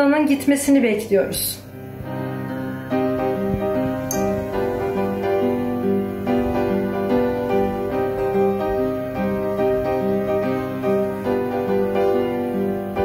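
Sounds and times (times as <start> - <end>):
background instrumental music: 1.7 - 13.0.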